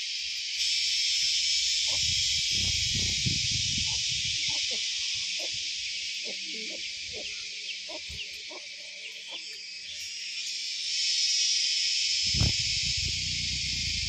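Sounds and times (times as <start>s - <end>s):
insect chorus shrill buzz: 0.0s - 14.0s.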